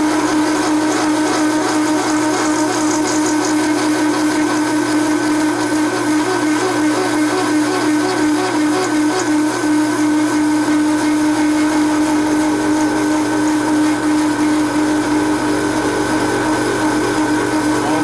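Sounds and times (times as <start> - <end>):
metal lathe cutting tool chattering: 0.0 - 5.9, 6.8 - 18.0.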